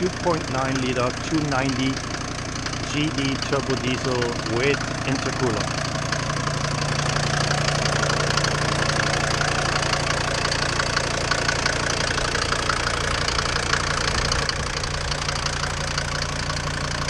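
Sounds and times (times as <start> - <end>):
diesel engine running with knock: 0.0 - 17.0.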